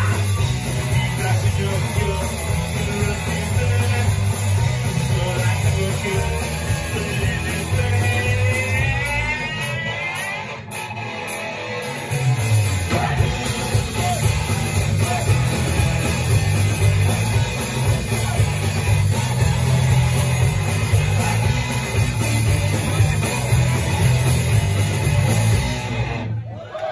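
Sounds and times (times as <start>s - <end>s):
live rock band playing: 0.0s - 26.5s.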